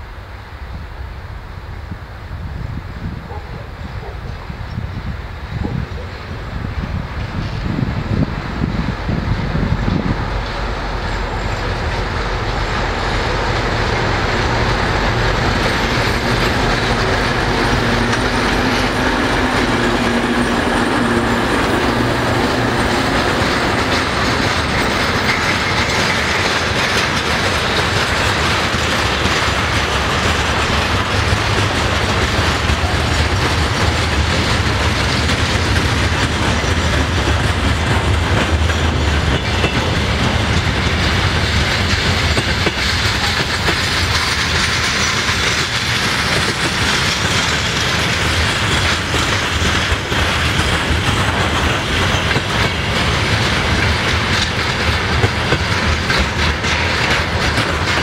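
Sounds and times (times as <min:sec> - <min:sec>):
diesel locomotive running past: 0:00.0 - 0:58.0
train wheels clickety-clack: 0:02.4 - 0:58.0.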